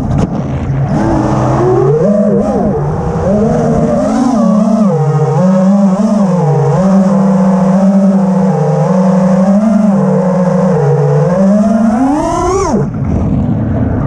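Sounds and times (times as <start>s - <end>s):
quadcopter motors whining: 0.9s - 13.0s.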